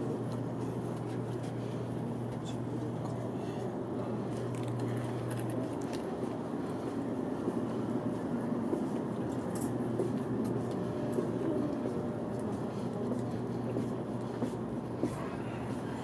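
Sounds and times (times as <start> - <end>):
train cabin noise: 0.0 - 16.0.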